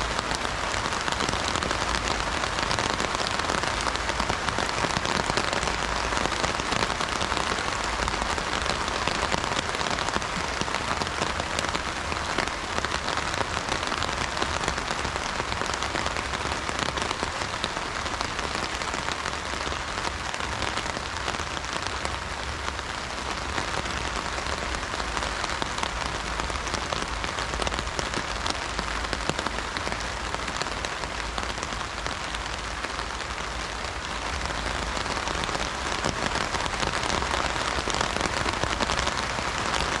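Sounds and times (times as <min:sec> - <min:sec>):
rain drumming on an umbrella: 0:00.0 - 0:40.0.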